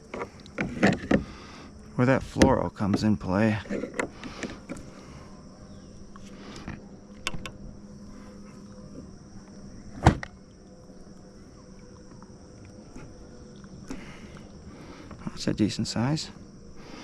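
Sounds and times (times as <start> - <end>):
high drone of insects: 0.0 - 17.0.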